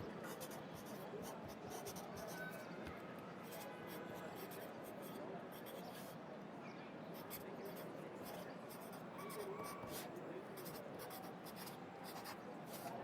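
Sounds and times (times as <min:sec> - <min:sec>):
faint city noise: 0:00.0 - 0:13.0
pencil writing on paper: 0:00.2 - 0:02.3, 0:03.5 - 0:06.2, 0:07.2 - 0:13.0.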